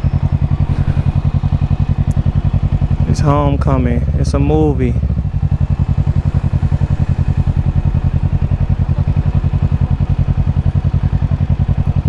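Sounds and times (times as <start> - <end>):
motorcycle engine idling low: 0.0 - 12.0.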